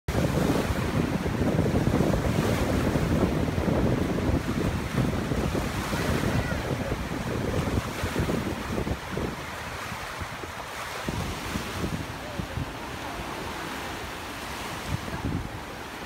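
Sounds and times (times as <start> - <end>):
waves breaking in surf: 0.1 - 16.0
wind buffeting microphone: 0.1 - 16.0.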